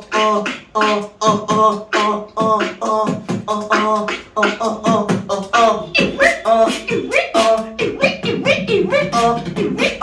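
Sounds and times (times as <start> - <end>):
beatboxing: 0.0 - 10.0.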